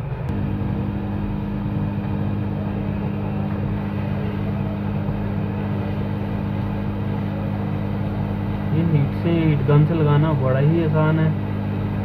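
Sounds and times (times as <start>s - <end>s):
hot air gun blower hum: 0.0s - 12.0s.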